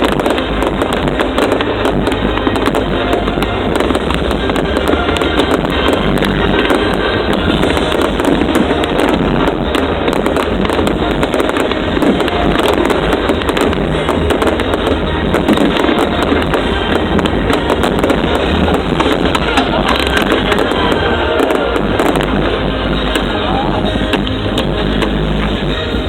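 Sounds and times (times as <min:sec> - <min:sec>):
fireworks crackling and popping: 0:00.0 - 0:26.0
show music soundtrack: 0:00.0 - 0:26.0.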